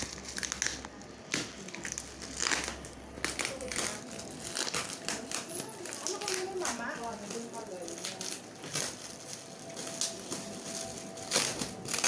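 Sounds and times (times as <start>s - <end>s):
plastic wrapping crinkling: 0.0s - 12.0s
scissors cutting wrapping: 0.0s - 12.0s.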